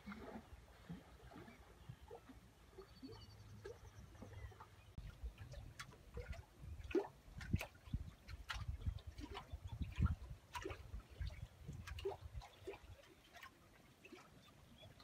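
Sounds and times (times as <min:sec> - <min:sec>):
water lapping against wooden dock: 0:00.0 - 0:15.0.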